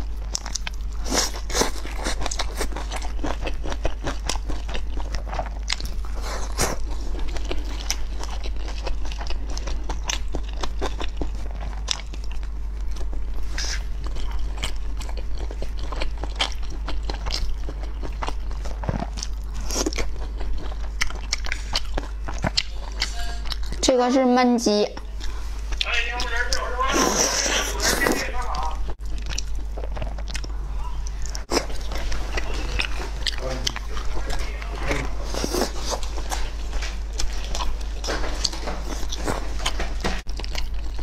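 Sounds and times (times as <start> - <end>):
person chewing food: 0.0 - 23.8, 25.0 - 41.0.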